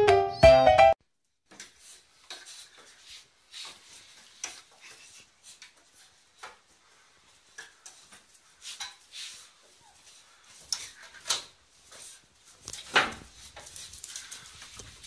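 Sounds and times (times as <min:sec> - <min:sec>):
paws and claws on floor: 0:01.6 - 0:15.0.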